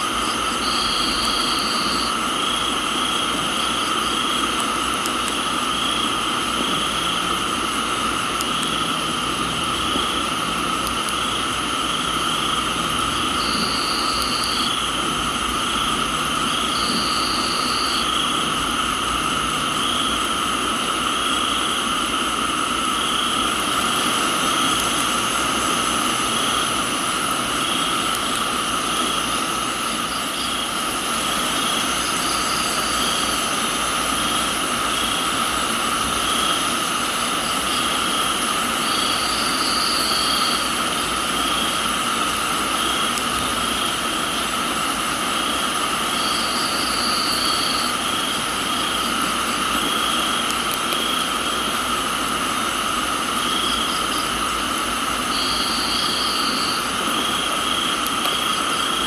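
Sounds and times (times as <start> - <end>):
crickets chirping: 0.0 - 59.0
rain hiss: 0.0 - 59.0.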